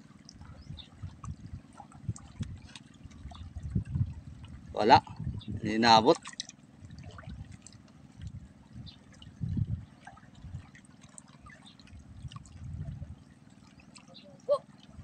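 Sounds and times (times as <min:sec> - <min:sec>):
small water splashes: 0:00.0 - 0:15.0
water lapping and gurgling: 0:00.0 - 0:15.0.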